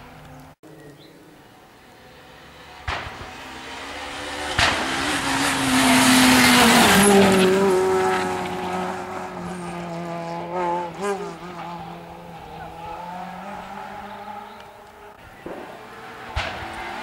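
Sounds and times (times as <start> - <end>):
rally car engine at high revs: 1.8 - 17.0.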